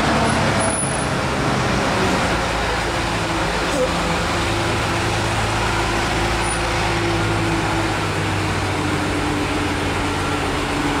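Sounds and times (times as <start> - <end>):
bus engine humming: 0.0 - 11.0
traffic noise: 0.0 - 11.0.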